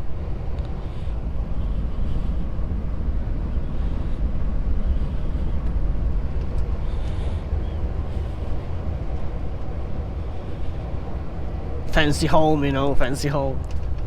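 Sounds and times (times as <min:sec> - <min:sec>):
truck engine and road drone: 0:00.0 - 0:14.0
wind buffeting the cab: 0:00.0 - 0:14.0.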